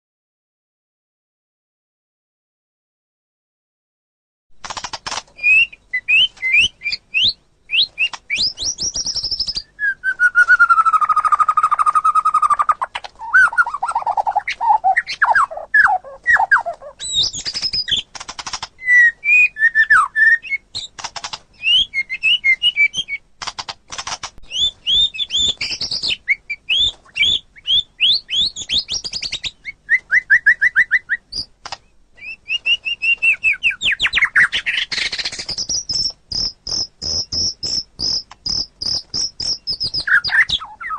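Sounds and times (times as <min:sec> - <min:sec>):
bird singing whistles and trills: 0:05.4 - 0:18.1, 0:18.8 - 0:20.9, 0:21.5 - 0:23.2, 0:24.4 - 0:40.9.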